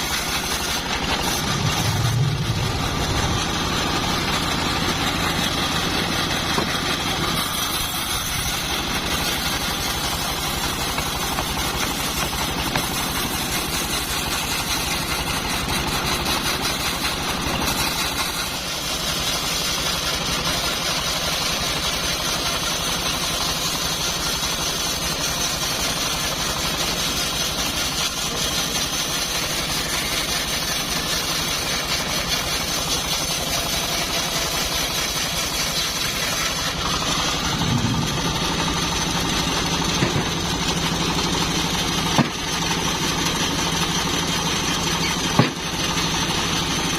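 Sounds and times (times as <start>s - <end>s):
bandsaw mill sawing wood: 0.0s - 46.9s.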